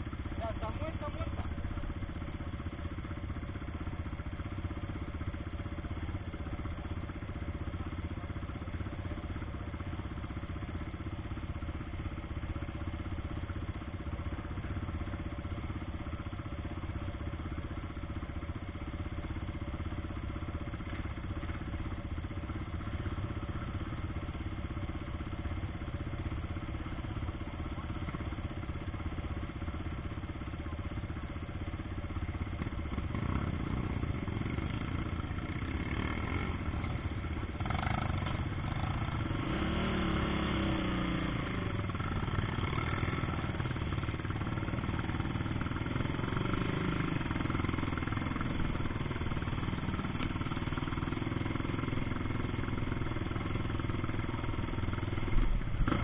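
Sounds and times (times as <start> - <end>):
quad bike engines idling: 0.0 - 56.0.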